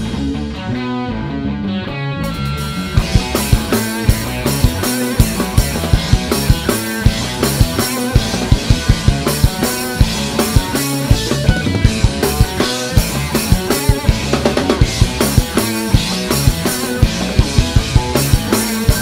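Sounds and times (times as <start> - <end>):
electric bass: 0.0 - 19.0
electric guitar: 0.0 - 19.0
drum kit beat: 2.2 - 19.0.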